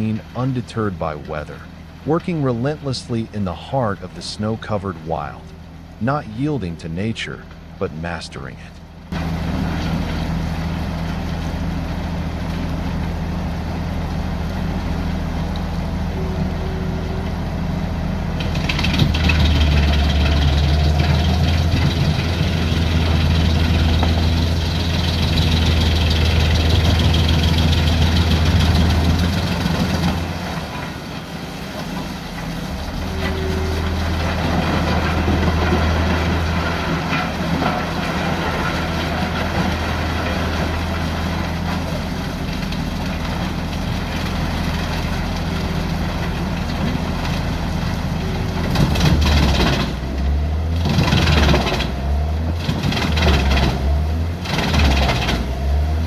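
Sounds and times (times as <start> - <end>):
wood chipper chipping logs: 9.1 - 56.0.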